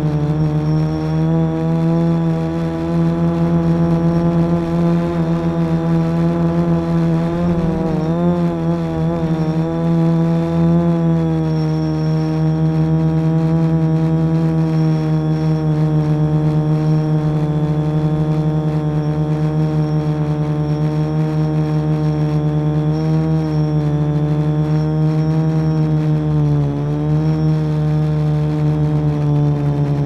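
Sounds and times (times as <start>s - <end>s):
drone motors humming: 0.0s - 30.0s.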